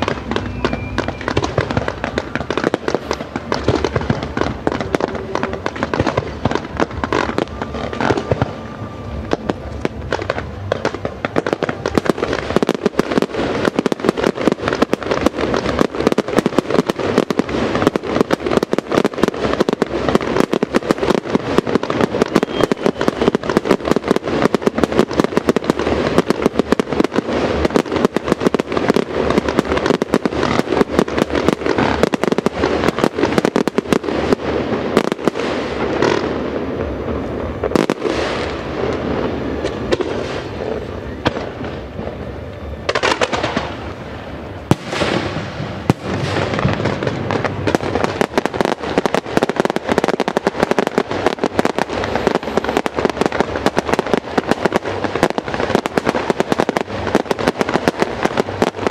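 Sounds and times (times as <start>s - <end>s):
fireworks bangs: 0.0s - 58.9s
rumble: 0.0s - 58.9s.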